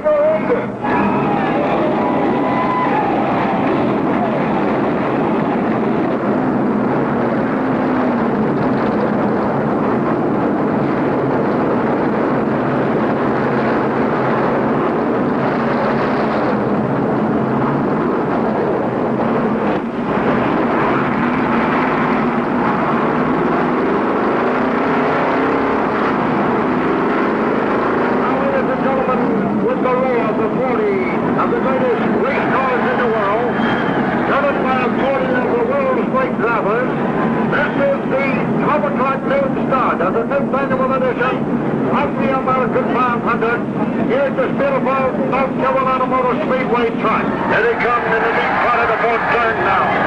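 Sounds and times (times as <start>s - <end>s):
race car engines rumbling: 0.0s - 50.0s.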